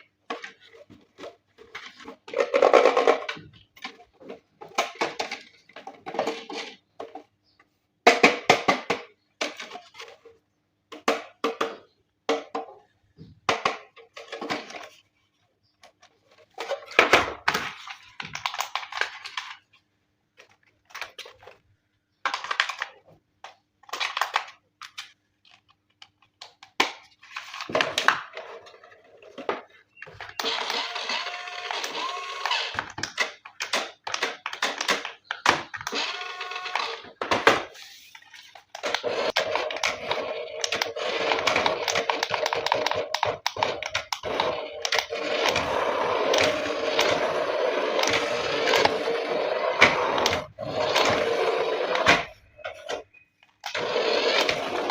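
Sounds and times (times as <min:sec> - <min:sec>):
plastic toy parts clattering: 0:00.2 - 0:07.4, 0:08.0 - 0:12.9, 0:13.5 - 0:15.2, 0:15.8 - 0:19.8, 0:20.4 - 0:54.9.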